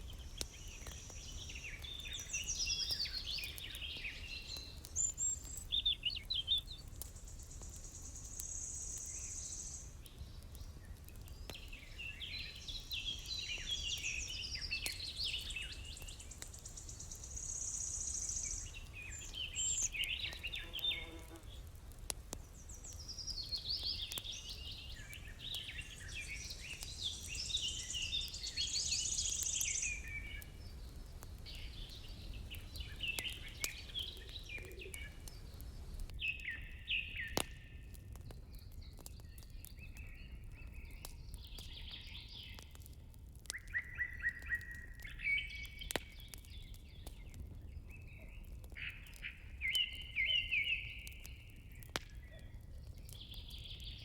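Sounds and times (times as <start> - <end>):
songbirds chirping: 0.0 - 54.0
wood fire crackles: 0.0 - 54.0.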